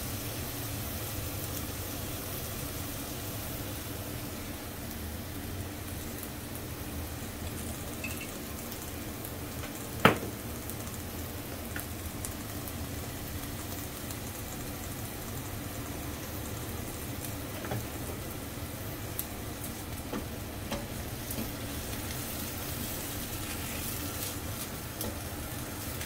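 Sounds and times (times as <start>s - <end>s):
vegetables sizzling in a wok: 0.0s - 26.0s.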